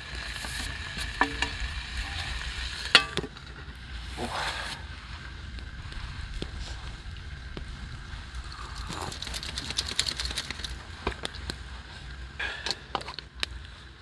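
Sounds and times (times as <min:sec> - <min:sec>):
campfire crackling and popping: 0:00.0 - 0:14.0
low steady rumble: 0:00.0 - 0:14.0.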